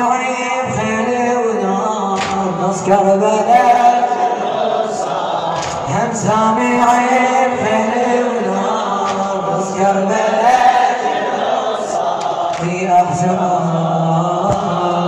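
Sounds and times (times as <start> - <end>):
men chanting in chorus: 0.0 - 15.0.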